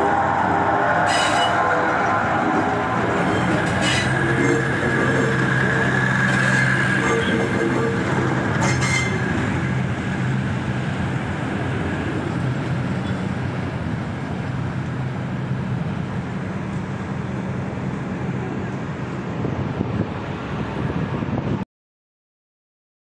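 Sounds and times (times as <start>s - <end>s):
train engine drone: 0.0s - 21.6s
train wheels on rails: 0.0s - 21.6s.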